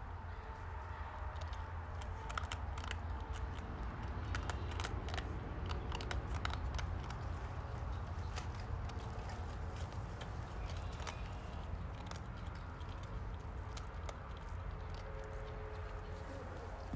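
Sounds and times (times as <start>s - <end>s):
porcupine chewing crunchily: 0.4s - 16.9s.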